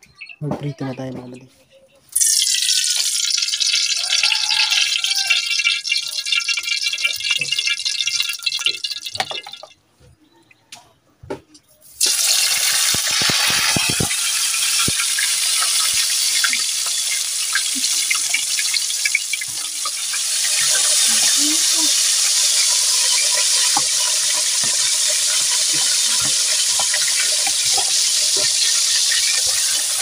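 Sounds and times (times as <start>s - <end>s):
fish sizzling in hot oil: 2.1s - 9.7s, 11.8s - 30.0s
oil crackling and popping: 2.1s - 9.8s, 11.9s - 30.0s.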